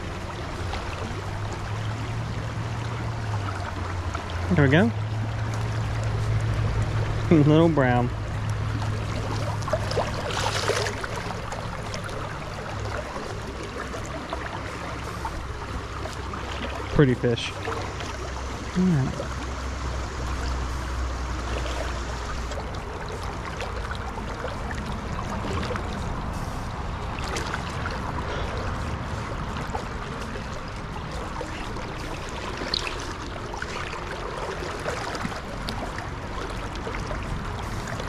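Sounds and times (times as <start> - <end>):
river current flowing: 0.0 - 38.0.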